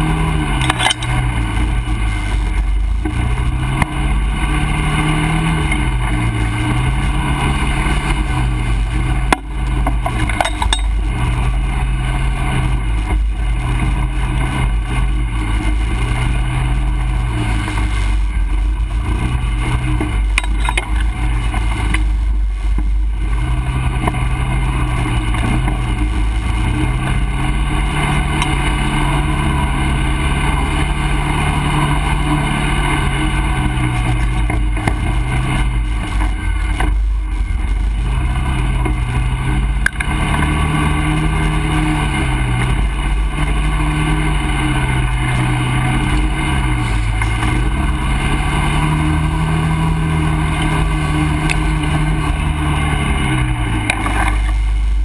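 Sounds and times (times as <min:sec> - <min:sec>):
atv engine revving: 0:00.0 - 0:55.0
constant rushing noise: 0:00.0 - 0:55.0.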